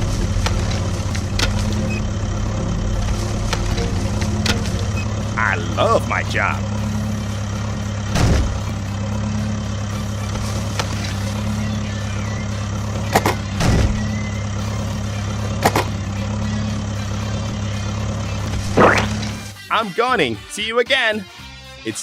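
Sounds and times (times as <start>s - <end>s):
truck engine idling: 0.0s - 20.5s.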